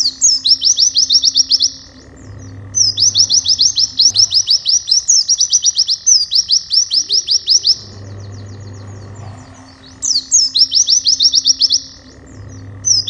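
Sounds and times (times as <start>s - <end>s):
bird twittering song: 0.0s - 13.0s.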